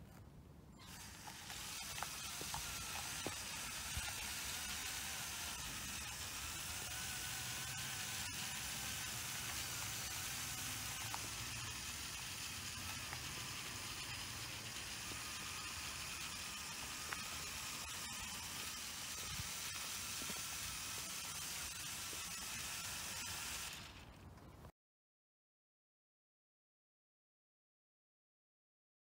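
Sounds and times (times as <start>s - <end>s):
faint wavering motor whine: 0.0s - 24.7s
toy car tyres hissing on asphalt: 0.8s - 24.2s.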